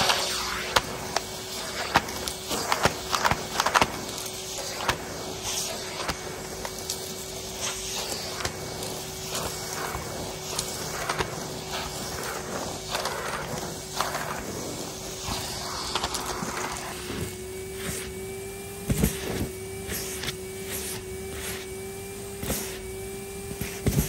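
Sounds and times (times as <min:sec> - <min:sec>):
vacuum cleaner humming: 0:00.0 - 0:24.0
vacuum tool scraping rug: 0:00.0 - 0:24.0.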